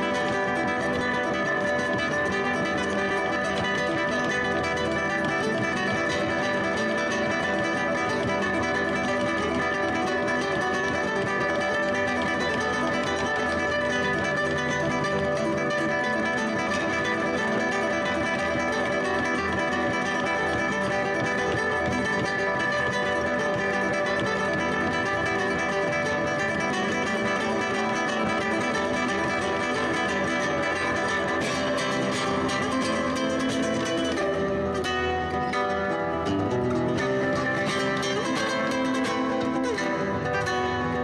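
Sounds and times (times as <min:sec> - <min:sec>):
plucked guitar instrumental music: 0:00.0 - 0:41.0.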